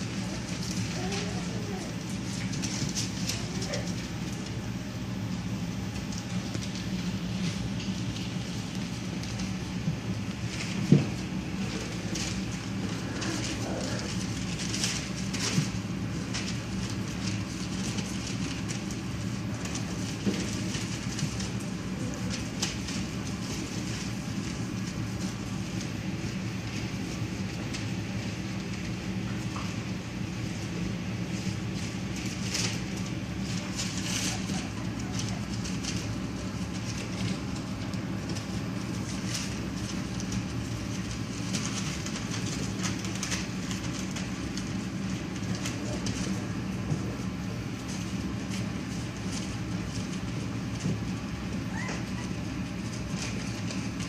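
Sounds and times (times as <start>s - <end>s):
newspaper rustling and crinkling: 0.0s - 54.0s
puppies scrambling: 0.0s - 54.0s
steady hum: 0.0s - 54.0s.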